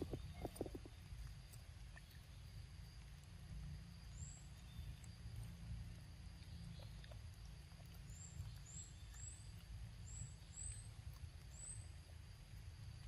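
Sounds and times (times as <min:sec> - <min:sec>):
small bird chirping: 0:00.0 - 0:13.0
steady low rumble: 0:00.0 - 0:13.0.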